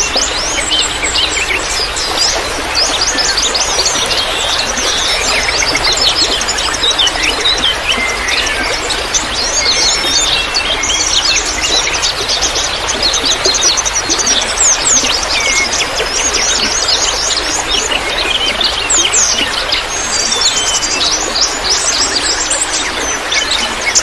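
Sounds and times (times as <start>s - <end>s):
running water trickling: 0.0s - 24.0s
small birds chirping: 0.0s - 24.0s.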